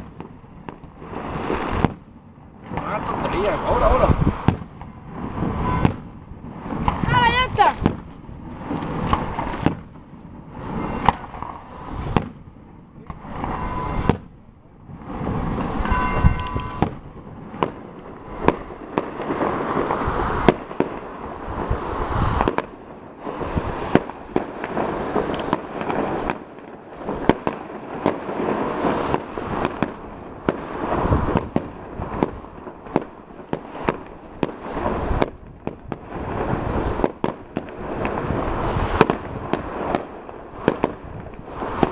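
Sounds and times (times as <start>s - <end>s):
firework whistling: 0.0s - 2.0s, 2.6s - 41.9s
fireworks bangs and crackling: 0.0s - 41.9s.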